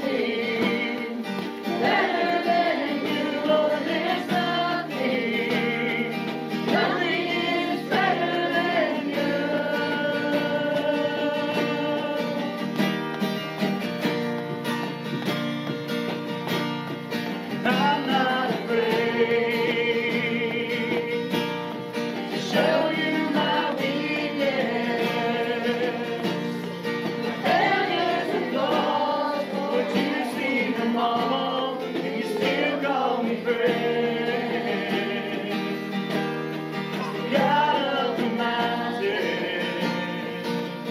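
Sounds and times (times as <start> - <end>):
voices singing: 0.0 - 13.1, 17.4 - 40.9
acoustic guitar: 0.0 - 40.9.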